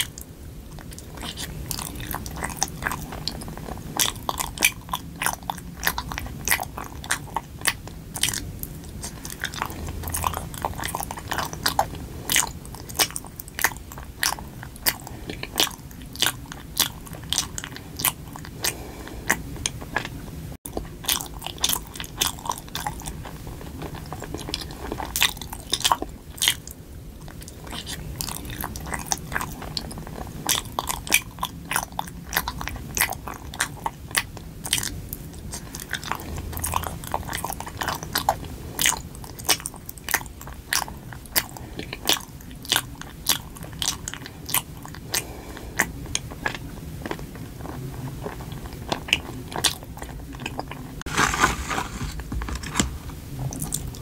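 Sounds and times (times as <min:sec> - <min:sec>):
biting and chewing: 0:00.0 - 0:54.0.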